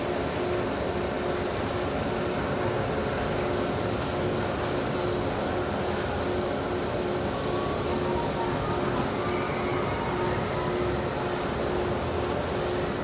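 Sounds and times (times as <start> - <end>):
constant mechanical hum: 0.0 - 13.0
roller coaster chain lift clatter: 0.0 - 13.0.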